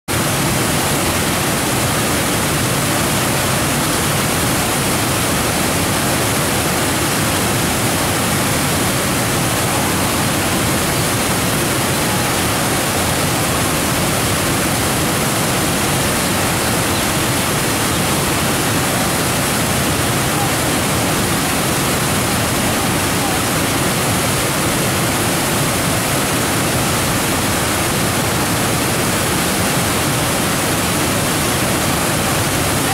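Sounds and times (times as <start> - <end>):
river rapids rushing: 0.1 - 32.9.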